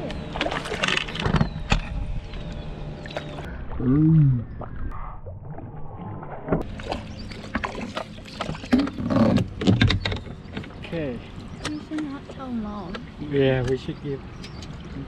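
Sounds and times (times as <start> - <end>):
water sloshing around boat: 0.0 - 4.8, 5.4 - 15.0.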